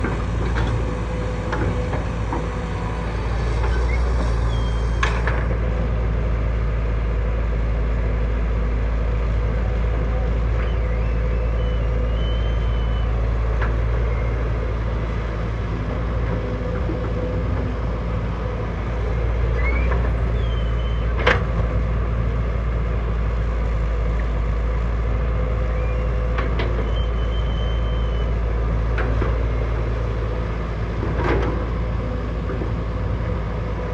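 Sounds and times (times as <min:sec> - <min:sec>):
diesel machinery rumbling: 0:00.0 - 0:33.9.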